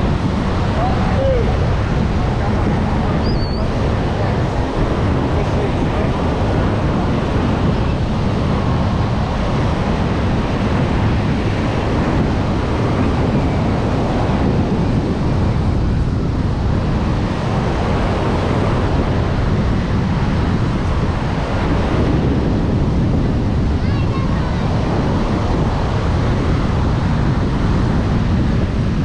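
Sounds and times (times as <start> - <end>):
beach surf: 0.0 - 29.0
wind rumbling on microphone: 0.0 - 29.0.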